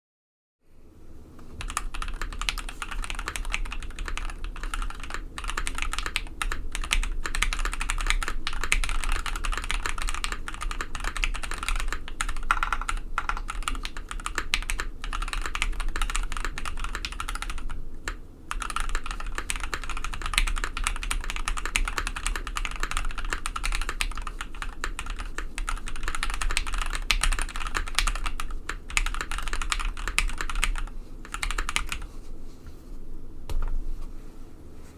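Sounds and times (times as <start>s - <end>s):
mechanical keyboard typing: 1.6s - 32.0s.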